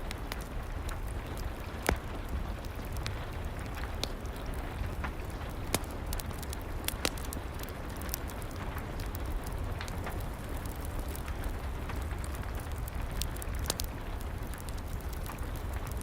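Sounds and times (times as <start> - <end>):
rain: 0.0 - 16.0
wood fire crackling: 0.0 - 16.0.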